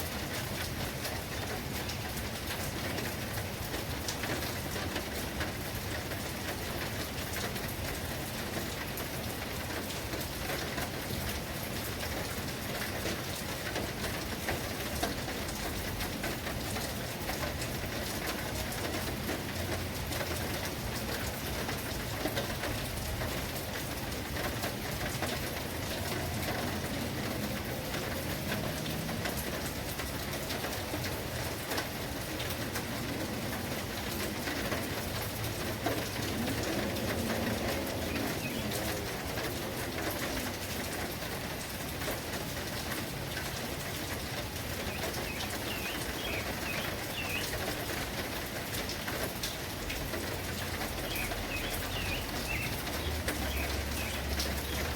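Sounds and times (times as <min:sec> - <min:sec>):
heavy rain pattering: 0:00.0 - 0:54.9.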